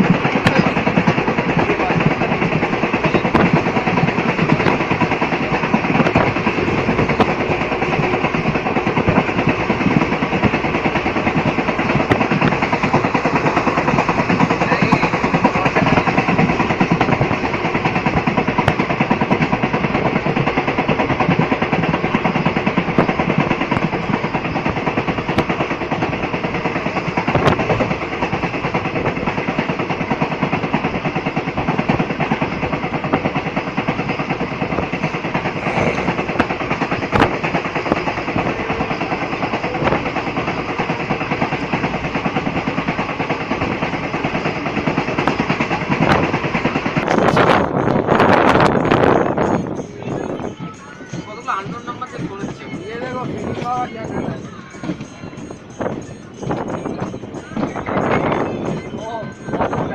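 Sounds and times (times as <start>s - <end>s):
train rattling on track: 0.0s - 59.9s.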